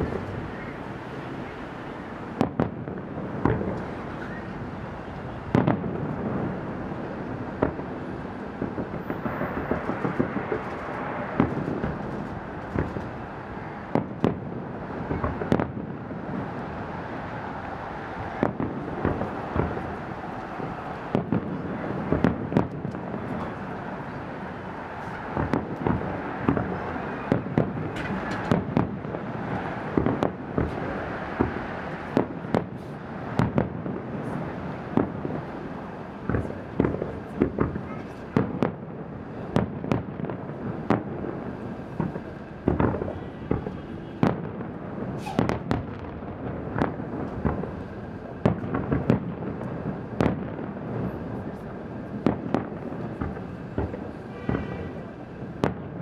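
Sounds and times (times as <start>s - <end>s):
fireworks bursting: 0.0s - 56.0s
steady wash of noise: 0.0s - 56.0s.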